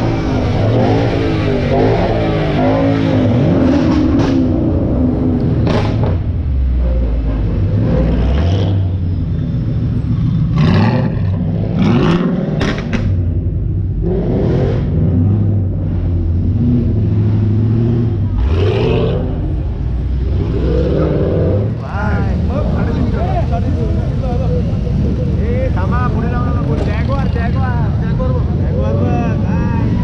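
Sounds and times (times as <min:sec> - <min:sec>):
sports car engines revving: 0:00.0 - 0:30.0.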